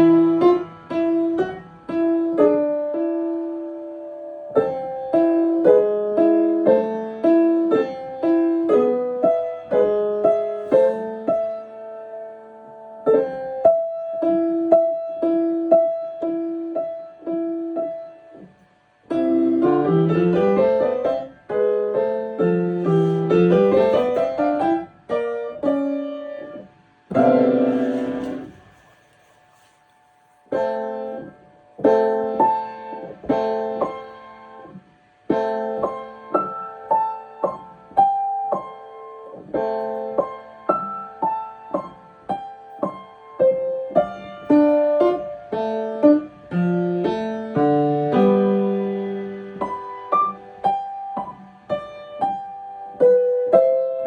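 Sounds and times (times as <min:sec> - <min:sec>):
solo piano playing: 0:00.0 - 0:18.4, 0:19.1 - 0:28.8, 0:30.5 - 0:54.0.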